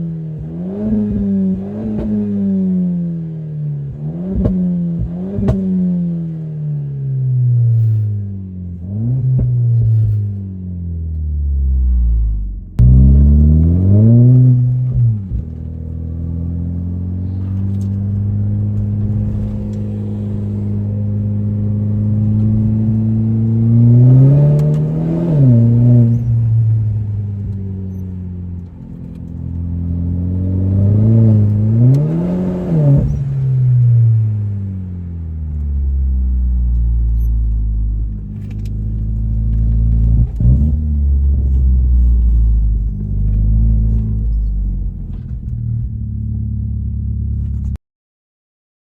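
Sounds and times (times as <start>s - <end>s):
car engine running: 3.8s - 47.8s.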